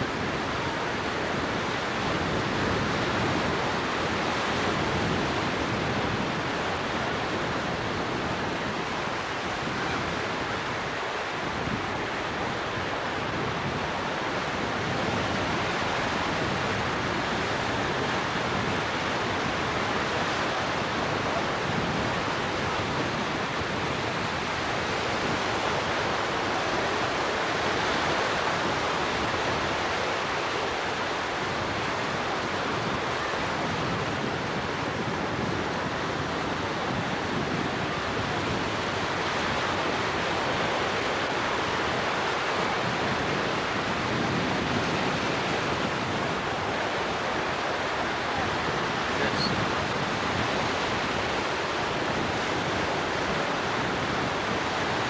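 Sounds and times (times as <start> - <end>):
ocean surf breaking: 0.0 - 55.0
wind on microphone: 0.0 - 55.0.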